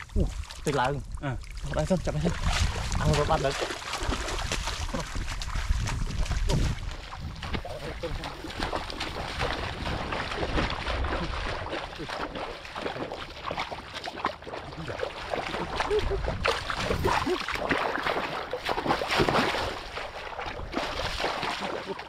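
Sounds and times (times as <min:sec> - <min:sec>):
wading through muddy water: 0:00.0 - 0:22.0.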